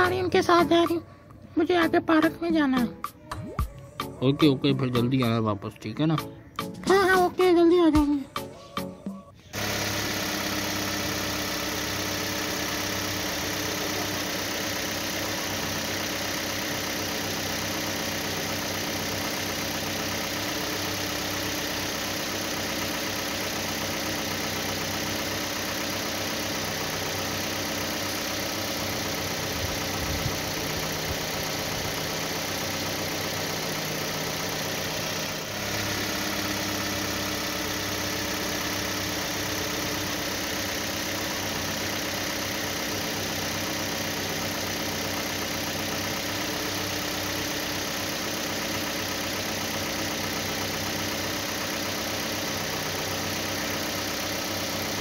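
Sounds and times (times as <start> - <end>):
engine idling: 0.0 - 2.9, 9.2 - 55.0.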